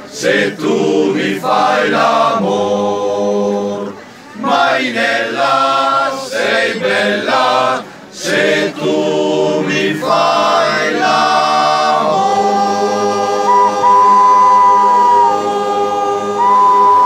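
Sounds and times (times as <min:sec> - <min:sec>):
men's choir singing a cappella: 0:00.1 - 0:17.0.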